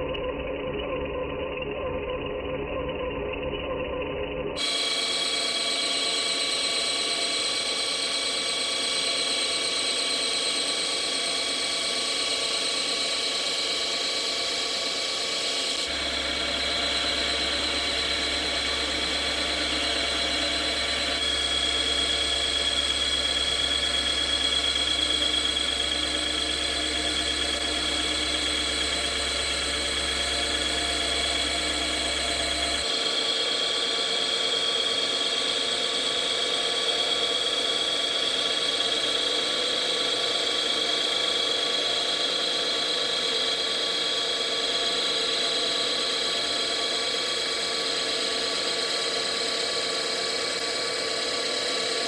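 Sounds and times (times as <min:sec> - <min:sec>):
metal lathe whining: 0:04.6 - 0:52.0.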